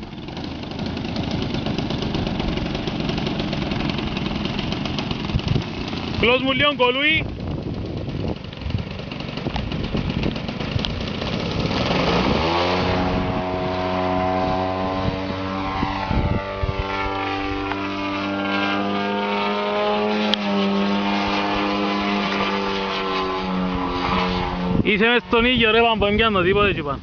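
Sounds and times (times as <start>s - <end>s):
model plane engine running: 0.0s - 27.0s.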